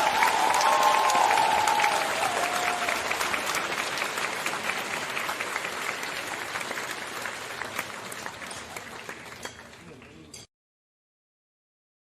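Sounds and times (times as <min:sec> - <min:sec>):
crowd applause: 0:00.0 - 0:10.2.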